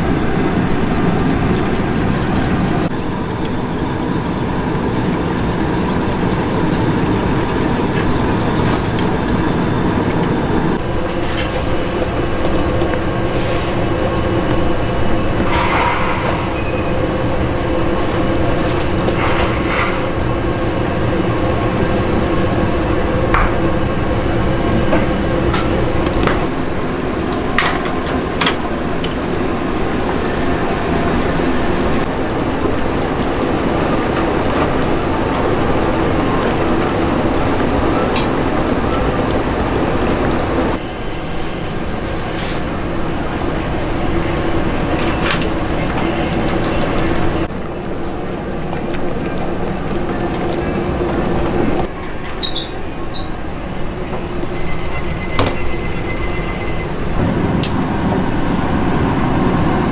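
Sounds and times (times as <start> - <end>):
kitchen rushing background noise: 0.0 - 59.9.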